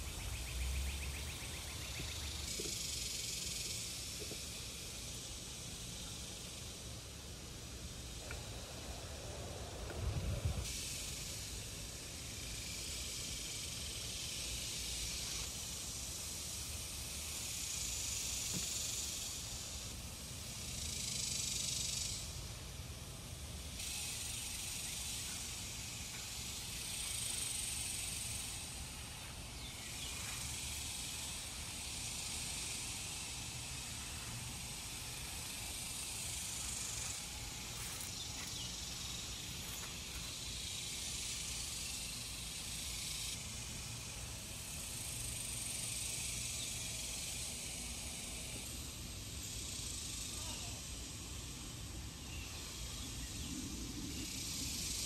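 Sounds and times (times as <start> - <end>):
high outdoor hiss: 0.0 - 55.0.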